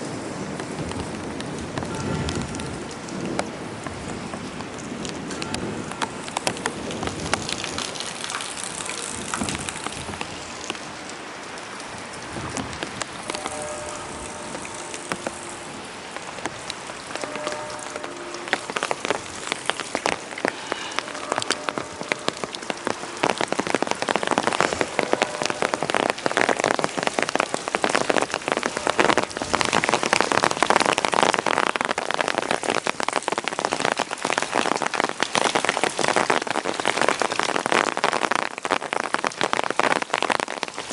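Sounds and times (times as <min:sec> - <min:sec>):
rain on hard surfaces: 0:00.0 - 0:40.9.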